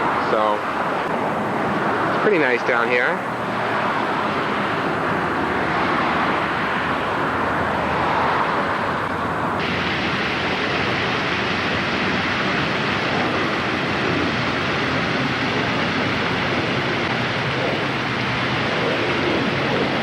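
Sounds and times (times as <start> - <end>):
outdoor rushing noise: 0.0 - 20.0.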